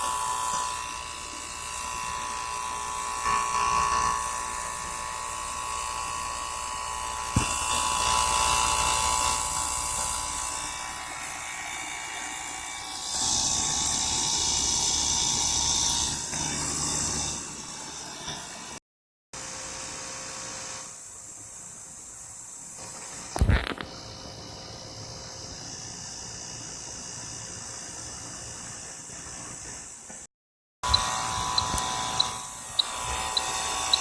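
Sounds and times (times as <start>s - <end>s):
machine hiss and hum: 0.0s - 18.8s, 19.4s - 30.2s, 30.8s - 34.0s.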